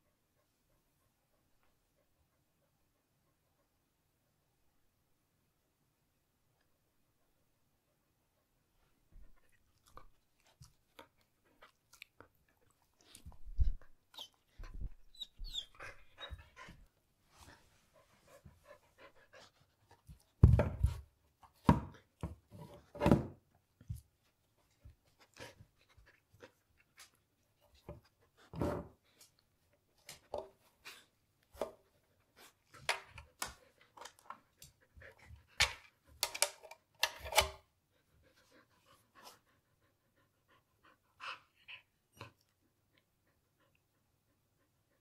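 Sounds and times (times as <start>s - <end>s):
dog panting and sniffing: 7.8s - 23.0s, 23.8s - 45.0s.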